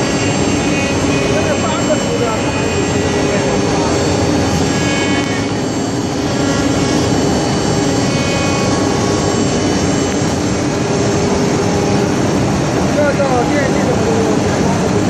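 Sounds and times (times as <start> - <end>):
cnc router spindle whine: 0.0 - 15.0
dense machining noise: 0.0 - 15.0.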